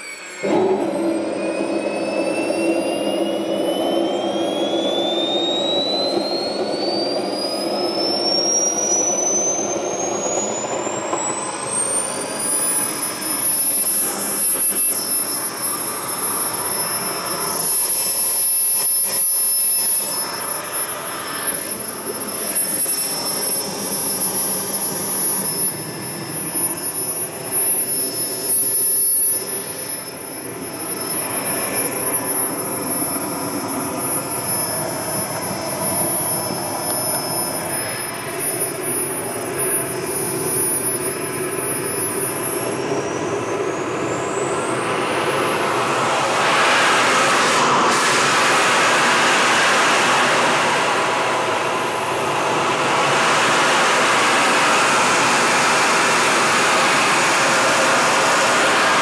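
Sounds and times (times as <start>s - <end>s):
jet turbine whine: 0.0s - 59.0s
rushing exhaust: 0.0s - 59.0s.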